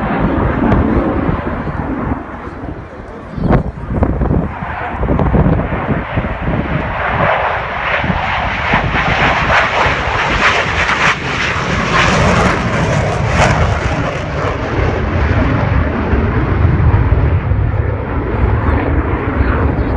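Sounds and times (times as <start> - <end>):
airplane flying past: 0.0 - 19.9.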